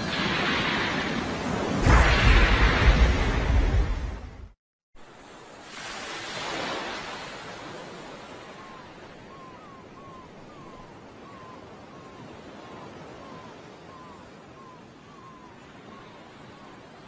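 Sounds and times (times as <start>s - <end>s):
ocean surf washing: 0.0s - 17.0s.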